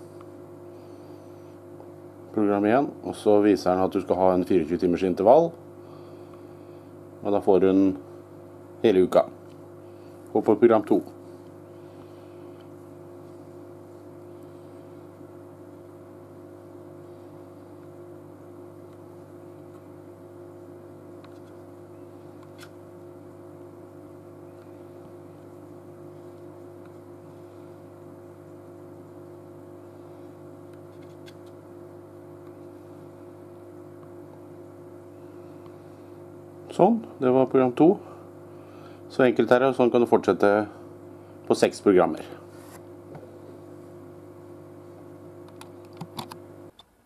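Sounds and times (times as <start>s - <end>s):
low hum of held tones: 0.0s - 46.8s.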